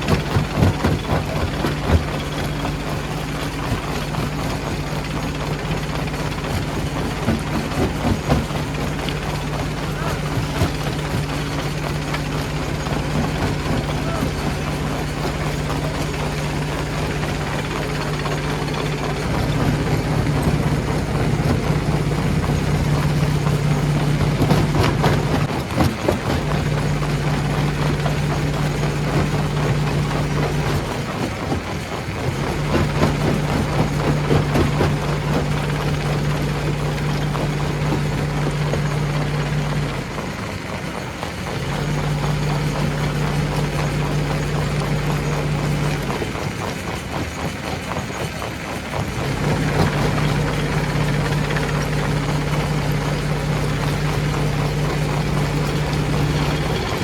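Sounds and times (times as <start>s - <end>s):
low motor hum: 0.0s - 57.0s
rock crushing rattling grinding: 0.0s - 57.0s.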